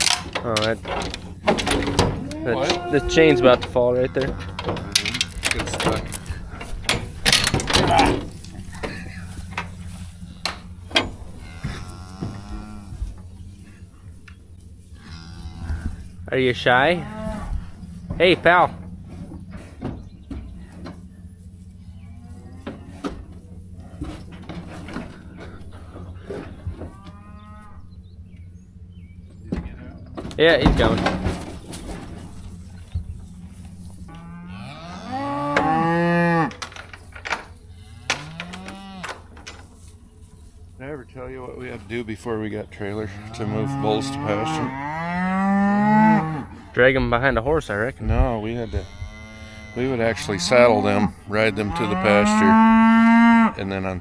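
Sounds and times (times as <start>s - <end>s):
bull mooing: 0.0s - 19.8s, 21.8s - 28.0s, 31.1s - 37.0s, 37.6s - 39.6s, 42.9s - 46.7s, 48.1s - 54.0s
low steady rumble: 0.0s - 54.0s.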